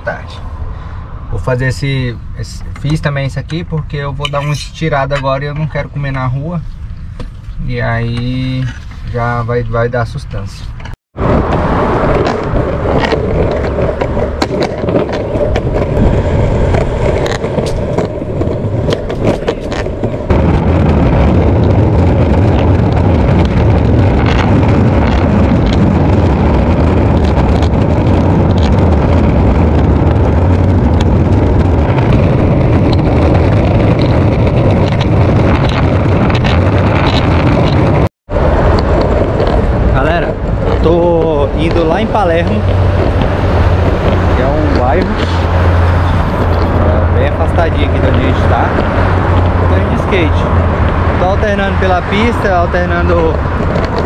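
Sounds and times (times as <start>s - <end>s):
skateboard wheels rolling on pavement: 10.7s - 54.0s.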